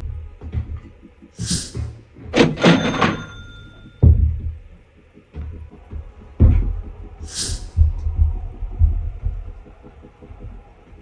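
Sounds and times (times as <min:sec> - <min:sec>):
background music with pulsing beat: 0:00.0 - 0:02.4, 0:03.7 - 0:11.0.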